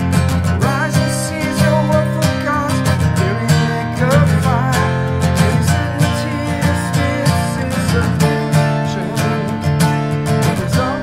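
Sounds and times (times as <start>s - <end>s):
acoustic guitars strummed: 0.0s - 11.0s
man singing: 0.4s - 11.0s.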